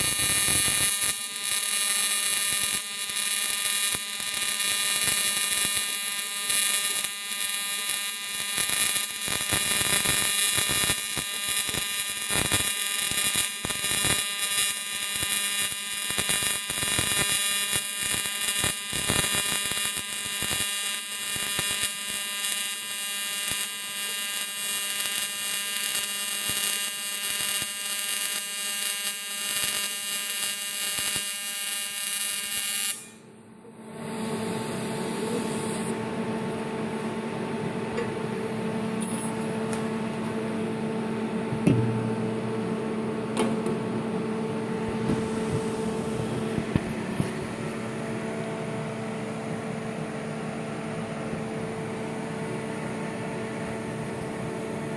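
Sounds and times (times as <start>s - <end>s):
welding arc buzzing and crackling: 0.0s - 54.9s.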